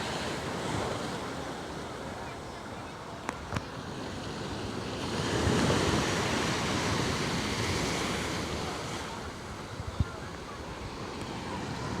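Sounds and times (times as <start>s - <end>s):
sea surf on shore: 0.0s - 12.0s.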